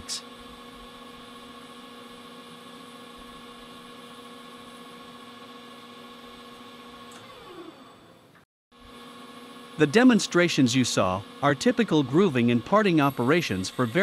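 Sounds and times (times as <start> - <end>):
metal lathe humming: 0.3 - 14.0.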